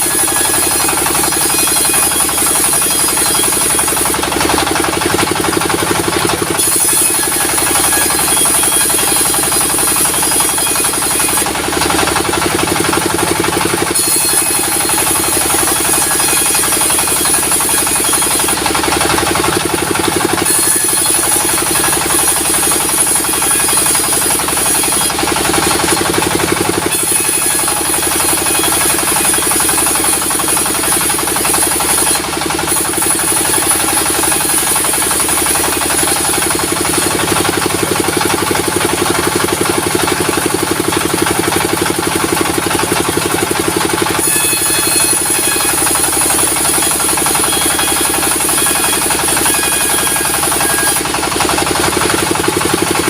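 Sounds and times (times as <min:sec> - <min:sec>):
engine-driven saw running: 0:00.0 - 0:53.0.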